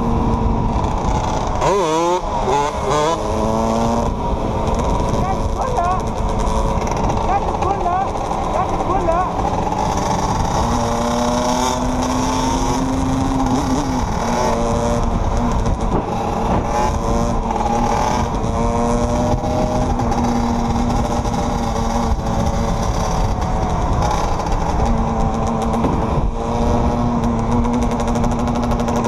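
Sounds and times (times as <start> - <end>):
dirt bike engine running: 0.0 - 29.0
wind rushing on microphone: 0.0 - 29.0.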